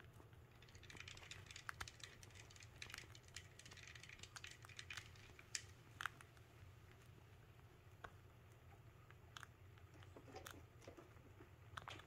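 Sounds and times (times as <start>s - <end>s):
rat chewing with crunching clicks: 0.0s - 12.0s.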